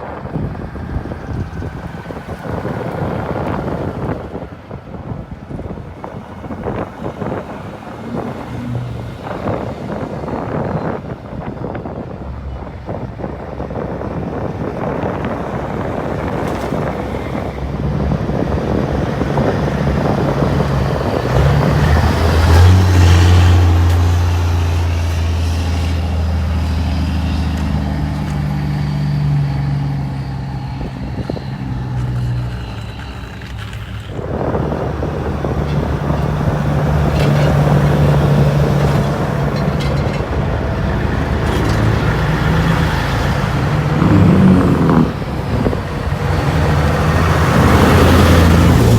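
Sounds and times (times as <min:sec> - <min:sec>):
trucks driving past: 0:00.0 - 0:48.9.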